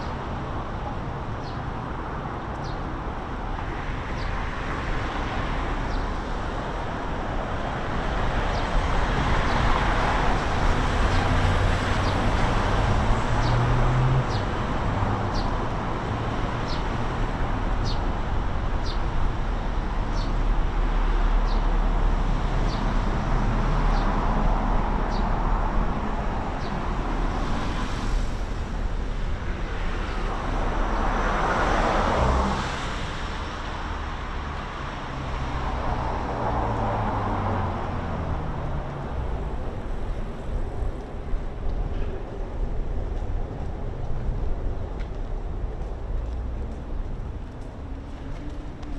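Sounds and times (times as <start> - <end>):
city road traffic: 0.0 - 48.9.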